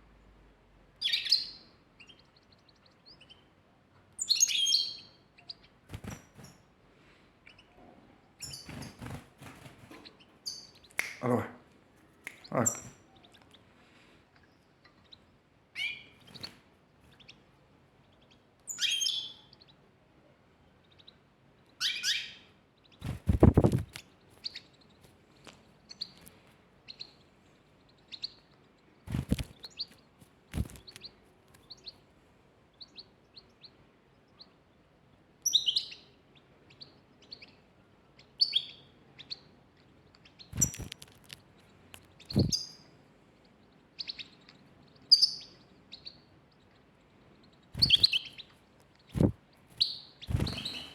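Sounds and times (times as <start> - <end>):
pet birds chirping: 1.0 - 6.7, 7.4 - 11.4, 12.0 - 19.9, 20.6 - 32.1, 32.7 - 50.9.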